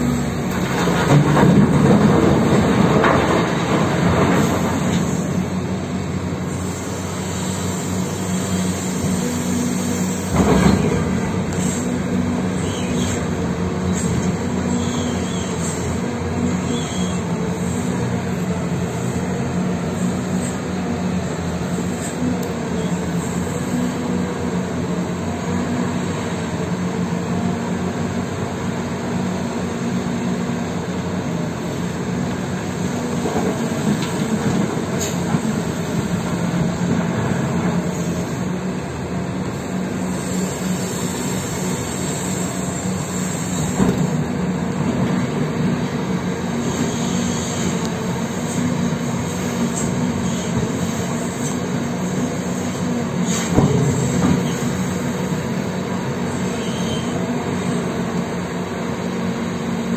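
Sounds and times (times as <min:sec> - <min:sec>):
heavy diesel engines under load: 0:00.0 - 0:59.9.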